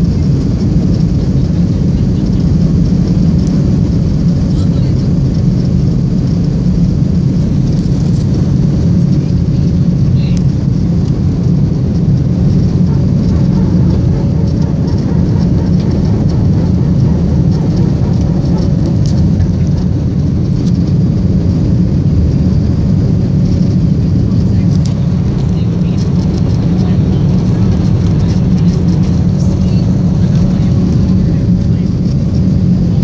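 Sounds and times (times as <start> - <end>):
faint hum: 0.0 - 33.0
jet engine deep rumble: 0.0 - 33.0.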